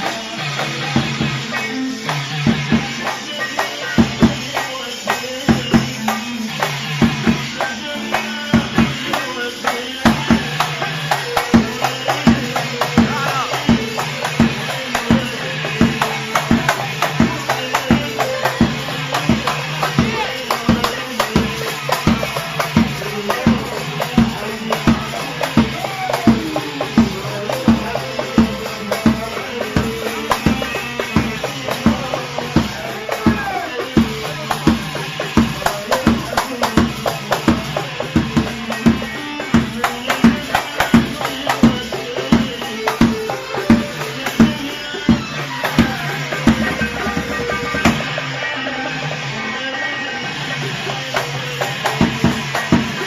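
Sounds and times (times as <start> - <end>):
party band music: 0.0 - 53.0.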